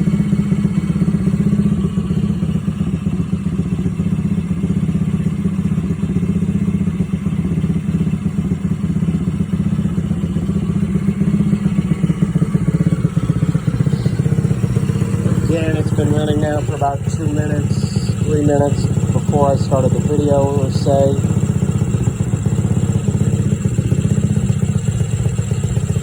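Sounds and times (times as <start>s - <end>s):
small petrol engine idling rough: 0.0s - 26.0s.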